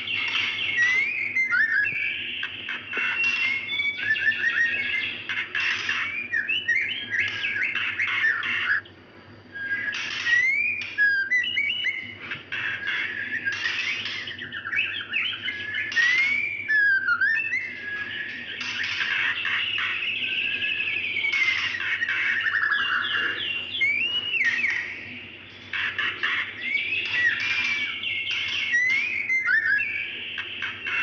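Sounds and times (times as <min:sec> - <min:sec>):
bird whistling: 0:00.0 - 0:31.0
harsh rasping bird calls: 0:00.0 - 0:31.0.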